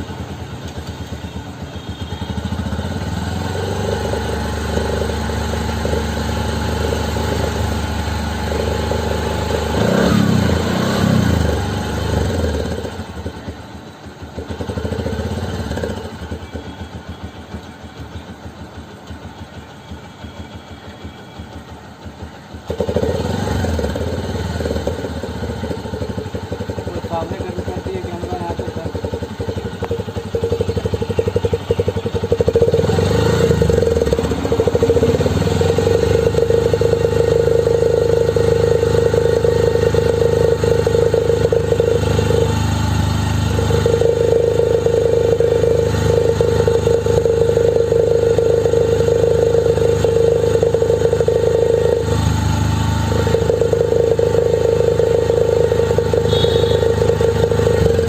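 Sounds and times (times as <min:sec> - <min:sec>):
motorcycle engine buzzing: 0:00.0 - 0:58.0.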